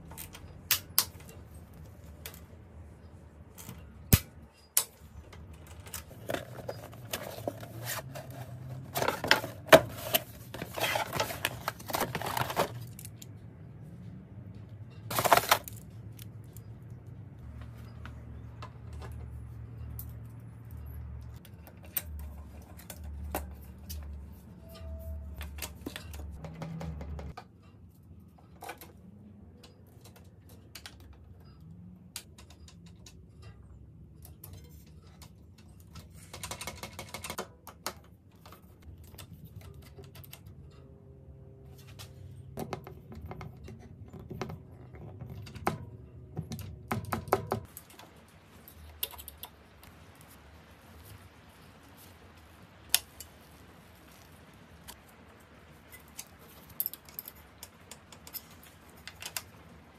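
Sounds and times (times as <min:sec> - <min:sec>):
tools and bicycle parts clicking: 0:00.0 - 0:13.4, 0:14.4 - 0:49.8, 0:55.9 - 0:59.6.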